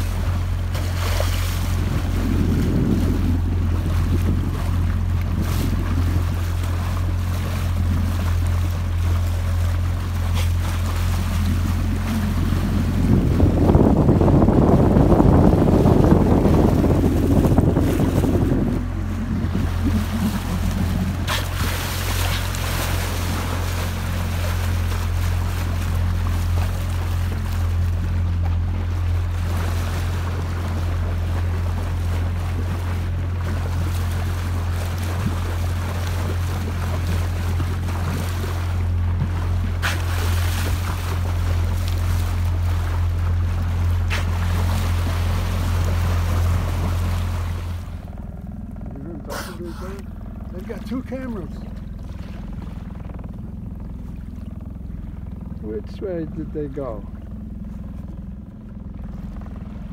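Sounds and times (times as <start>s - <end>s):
steady low hum: 0.0s - 59.9s
water rushing along hull: 0.0s - 59.9s
wind buffeting microphone: 0.0s - 59.9s.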